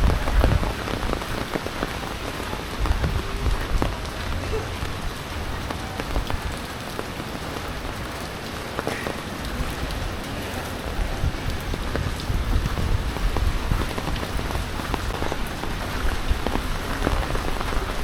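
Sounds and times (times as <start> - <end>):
heavy rain falling: 0.0 - 18.0
raindrops pattering on surfaces: 0.0 - 18.0.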